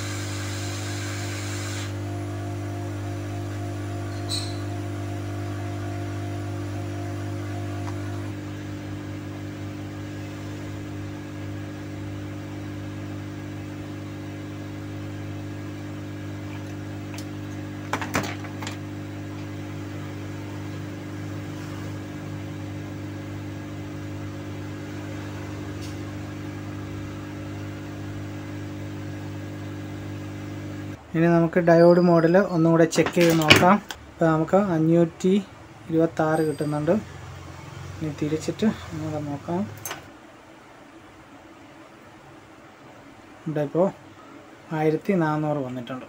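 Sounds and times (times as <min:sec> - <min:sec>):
electrical hum: 0:00.0 - 0:46.0.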